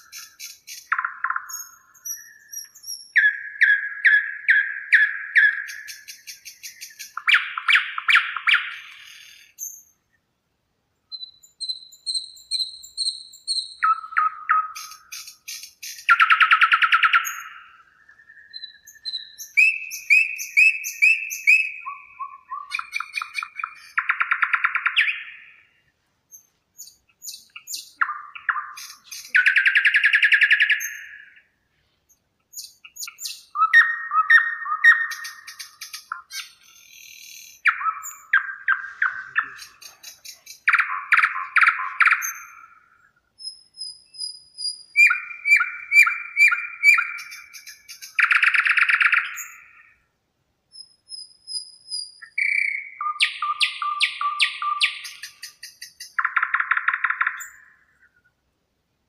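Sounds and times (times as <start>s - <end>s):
songbirds singing: 0.0s - 58.6s.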